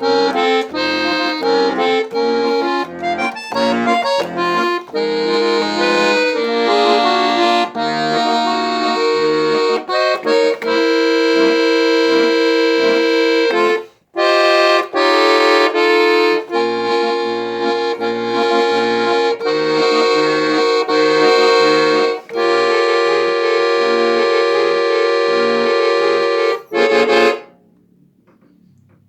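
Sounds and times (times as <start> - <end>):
accordion melody over chords: 0.0 - 27.6.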